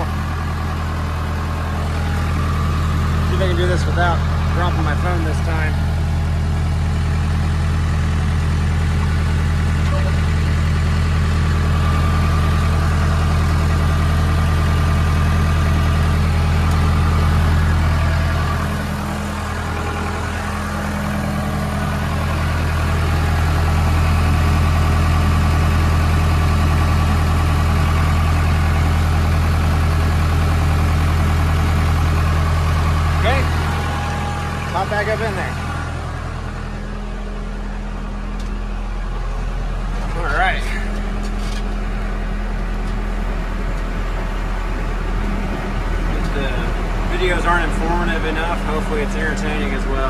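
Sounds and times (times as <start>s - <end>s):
diesel engine idling: 0.0s - 50.0s.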